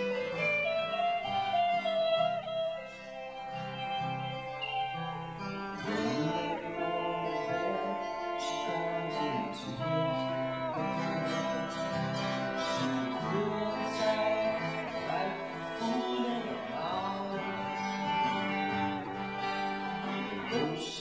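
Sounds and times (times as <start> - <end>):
instruments playing melody: 0.0 - 21.0
strummed acoustic guitar: 0.0 - 21.0.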